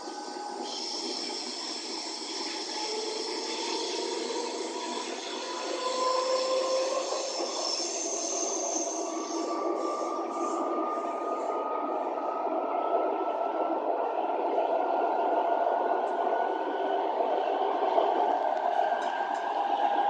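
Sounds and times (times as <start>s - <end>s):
train wheels and air rumbling: 0.0s - 20.0s.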